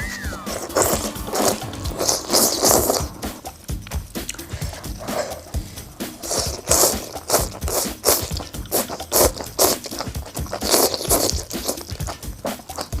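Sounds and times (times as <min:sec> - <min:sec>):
background music: 0:00.0 - 0:13.0
crunchy chewing: 0:00.0 - 0:13.0.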